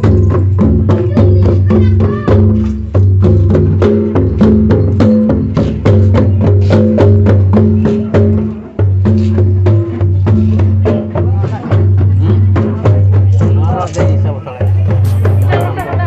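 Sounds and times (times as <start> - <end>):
hand drums fast rhythm: 0.0 - 16.0.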